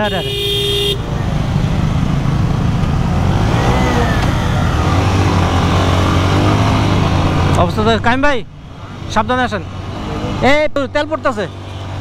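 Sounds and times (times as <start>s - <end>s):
road noise: 0.0s - 12.0s
rushing wind: 0.9s - 10.7s.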